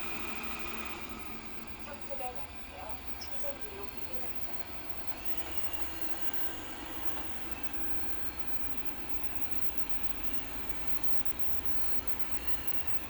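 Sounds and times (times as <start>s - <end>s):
robot floor cleaner motor whirring: 0.0s - 13.0s.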